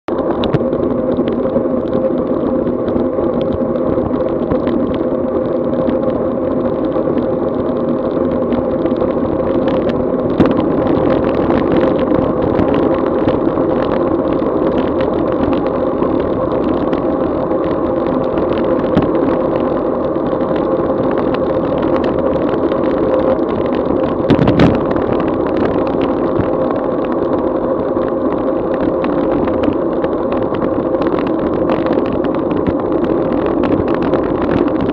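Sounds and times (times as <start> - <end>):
bicycle tyres on wet road: 0.1 - 34.9.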